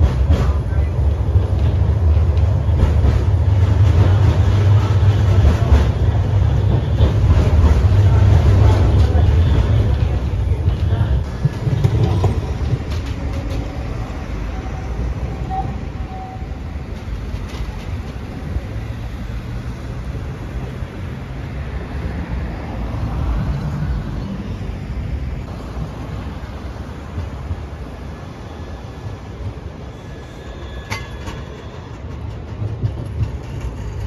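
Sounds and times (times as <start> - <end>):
street traffic rumble: 0.0 - 34.0
tram moving: 0.0 - 34.0.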